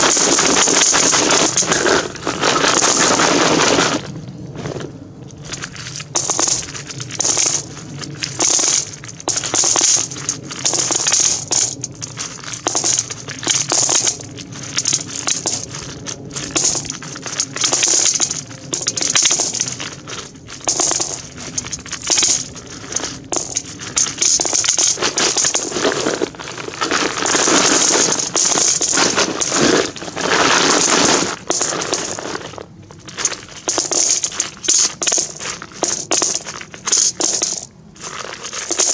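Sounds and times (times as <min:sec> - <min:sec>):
coins pouring and clinking: 0:00.0 - 0:03.8, 0:05.5 - 0:38.9.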